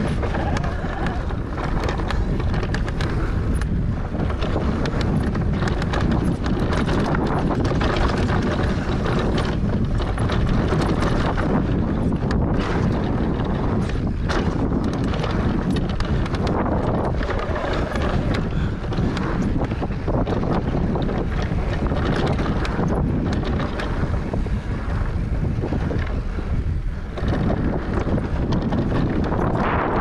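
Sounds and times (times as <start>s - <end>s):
bike clicks and rattles: 0.0s - 30.0s
bike tyres rumbling on dirt: 0.0s - 30.0s
wind buffeting microphone: 0.0s - 30.0s.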